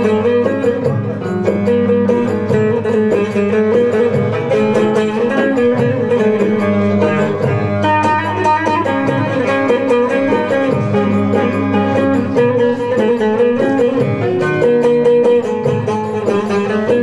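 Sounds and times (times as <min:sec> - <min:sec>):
long-necked lute strummed: 0:00.0 - 0:17.0.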